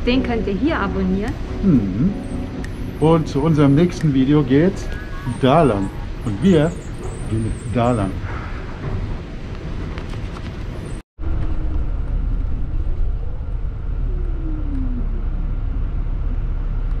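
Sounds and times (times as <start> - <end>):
faint rising and falling tone: 0.0 - 8.2, 11.2 - 16.9
bus rumbling through traffic: 0.0 - 17.0
steady background hum: 0.0 - 17.0.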